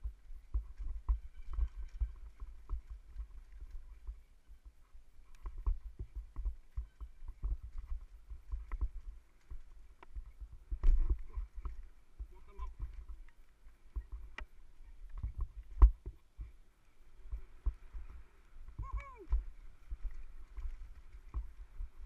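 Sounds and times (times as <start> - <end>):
mountain bike rattling over trail: 0.0 - 4.4, 5.2 - 22.0.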